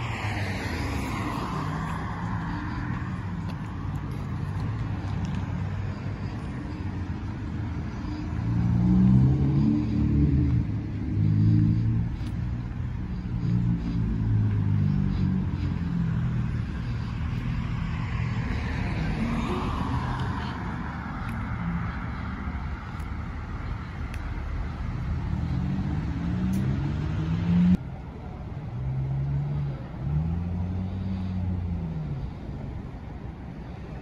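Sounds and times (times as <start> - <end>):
rumble of passing cars: 0.0 - 34.0.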